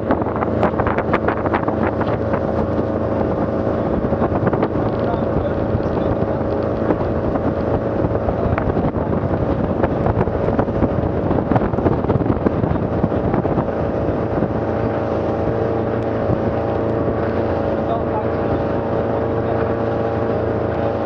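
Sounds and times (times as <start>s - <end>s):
hull knocking on waves: 0.0s - 21.0s
rushing water: 0.0s - 21.0s
speedboat engine running: 0.0s - 21.0s
wind buffeting microphone: 0.0s - 21.0s.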